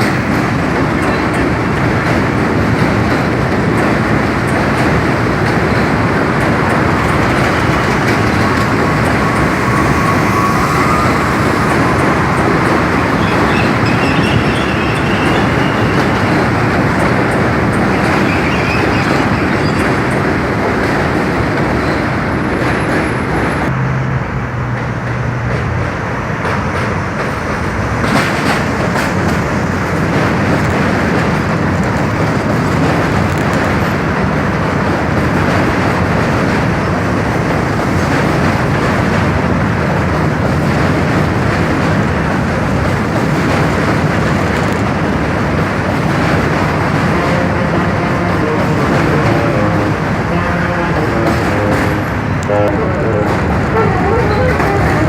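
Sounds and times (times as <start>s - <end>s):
subway train rumbling and rattling: 0.0s - 55.0s.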